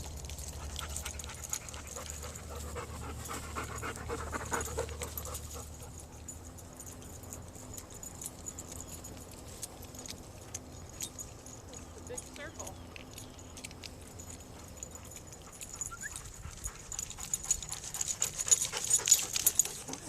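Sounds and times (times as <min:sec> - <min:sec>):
low steady rumble: 0:00.0 - 0:20.0
dog panting: 0:00.4 - 0:12.8, 0:13.6 - 0:20.0.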